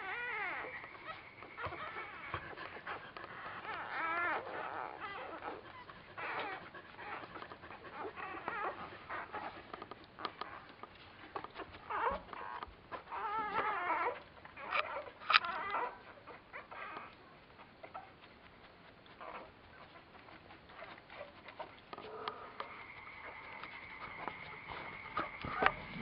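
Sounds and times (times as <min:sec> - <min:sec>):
puppies squeaking and whimpering: 0:00.0 - 0:26.0.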